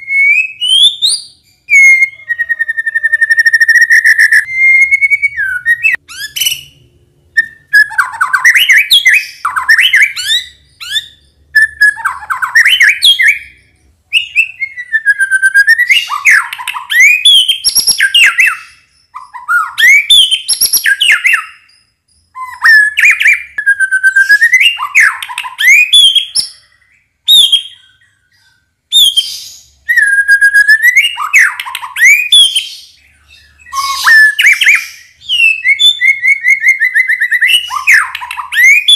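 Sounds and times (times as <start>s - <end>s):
bird singing whistled phrases: 0.0s - 6.8s, 7.4s - 38.9s.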